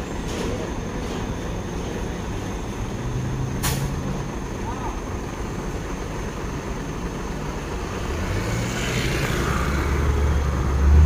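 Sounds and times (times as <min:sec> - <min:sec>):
low traffic rumble: 0:00.0 - 0:11.0
vehicle engine approaching: 0:01.0 - 0:11.0.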